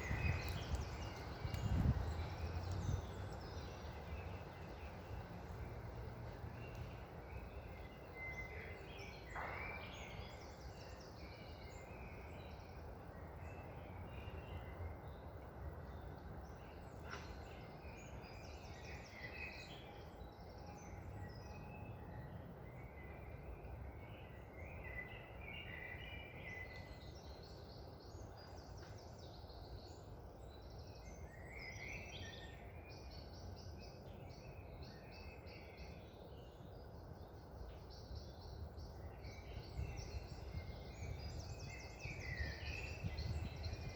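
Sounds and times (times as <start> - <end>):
songbirds chirping and singing: 0.0 - 43.9
wind rushing through trees: 0.0 - 43.9.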